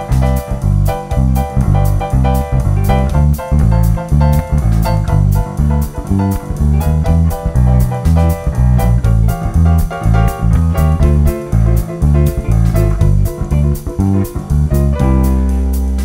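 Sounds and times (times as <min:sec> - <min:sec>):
bass guitar samba groove: 0:00.0 - 0:16.0
keyboard chords: 0:00.0 - 0:16.0
percussion beat: 0:00.0 - 0:16.0.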